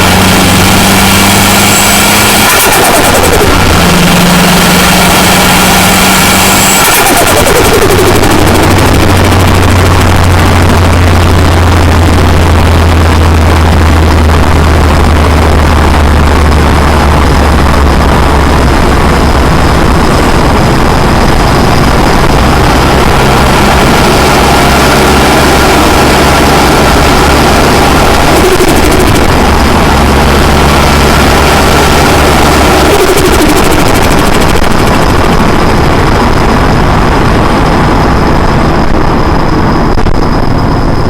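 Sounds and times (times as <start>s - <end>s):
turbocharged car engine running: 0.0s - 41.0s.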